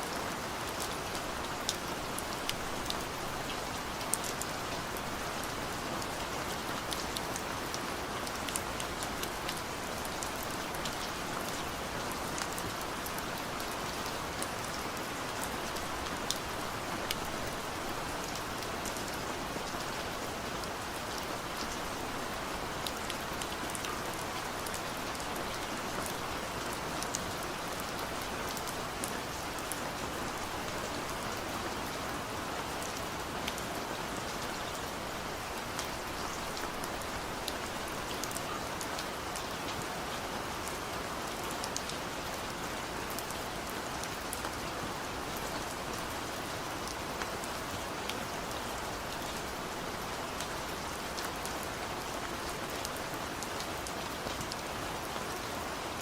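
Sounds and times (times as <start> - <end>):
steady rain hiss: 0.0 - 56.0
raindrops ticking on a surface: 0.1 - 55.2.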